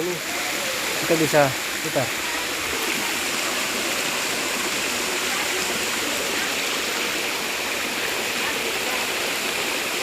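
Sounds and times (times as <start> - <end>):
waterfall pouring and splashing: 0.0 - 10.0.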